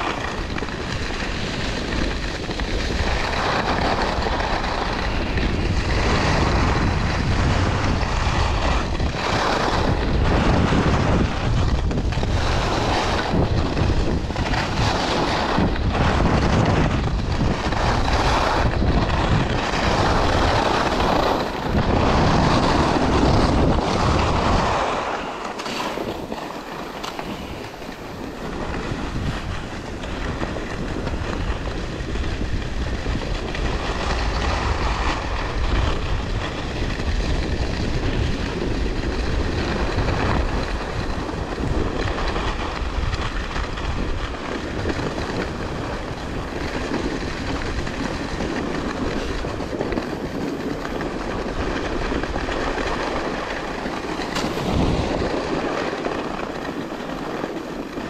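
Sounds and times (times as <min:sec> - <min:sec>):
skis scraping over snow: 0:00.0 - 0:58.0
wind rumbling on microphone: 0:00.0 - 0:58.0.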